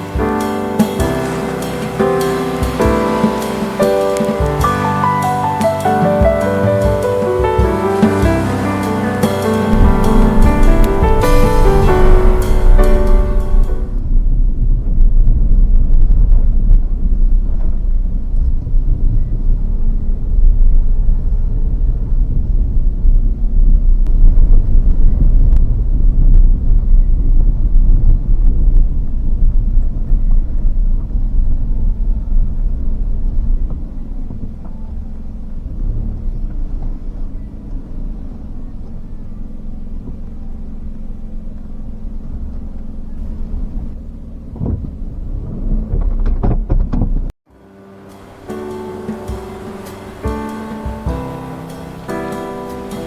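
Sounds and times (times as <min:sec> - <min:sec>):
vehicle rumbling while moving: 0:00.0 - 0:53.0.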